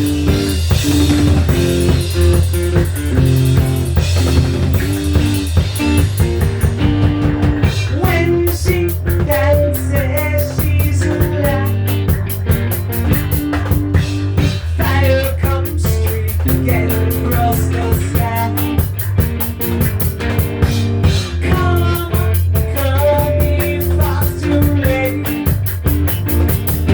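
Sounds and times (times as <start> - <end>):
bass notes: 0.0 - 26.9
drum kit beat: 0.0 - 26.9
rock music: 0.0 - 26.9.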